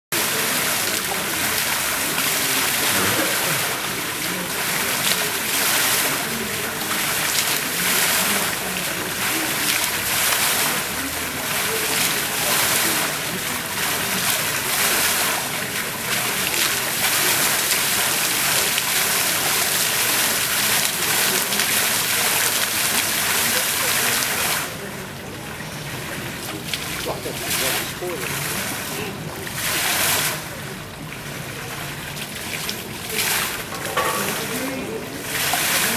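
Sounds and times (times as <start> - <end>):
fountain water splashing on paving: 0.2 - 35.9.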